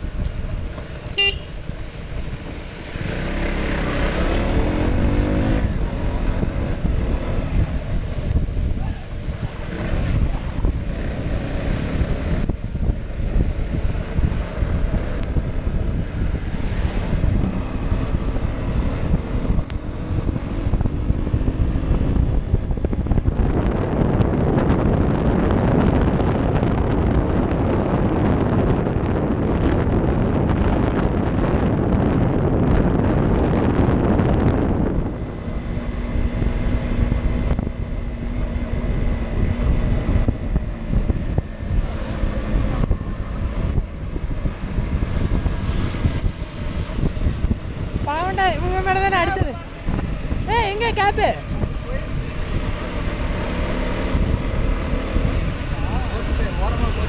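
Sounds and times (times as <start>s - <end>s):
motorcycle engine: 0.0s - 57.0s
wind rumbling on microphone: 0.0s - 57.0s.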